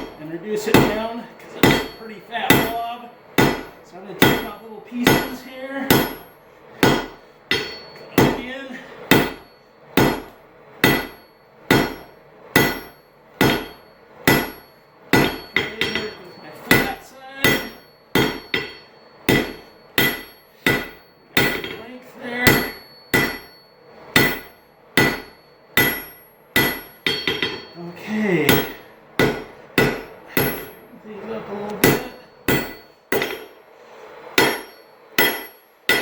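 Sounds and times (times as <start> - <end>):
hammer striking metal on anvil: 0.0 - 30.9, 31.7 - 33.6, 34.3 - 36.0.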